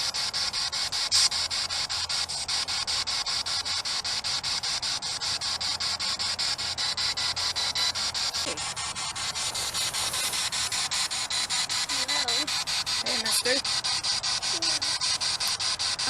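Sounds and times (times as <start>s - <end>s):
pulsing radio static: 0.0s - 16.0s.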